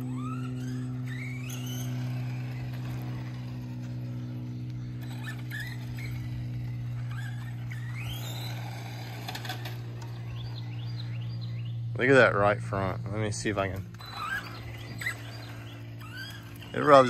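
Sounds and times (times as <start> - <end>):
electric motor whining: 0.0 - 17.0
steady low hum: 0.0 - 17.0.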